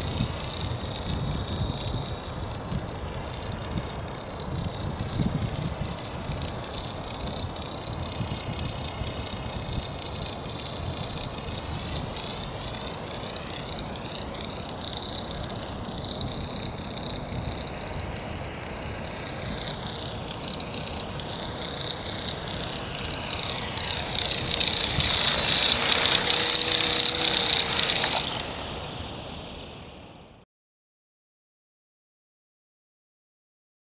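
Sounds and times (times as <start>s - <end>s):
helicopter rotor noise: 0.0s - 30.4s
model helicopter whine: 0.0s - 30.4s.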